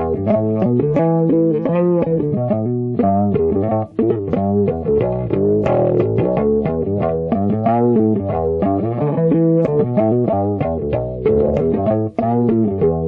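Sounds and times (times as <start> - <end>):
background music with guitar and bass: 0.0 - 13.0.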